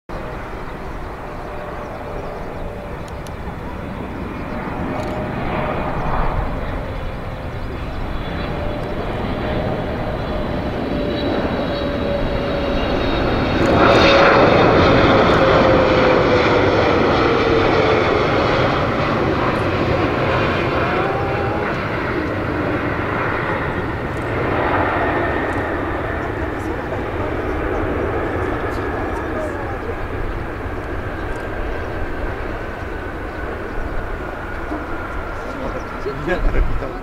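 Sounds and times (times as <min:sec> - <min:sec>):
jet airliner rumble and whine: 0:00.1 - 0:37.0.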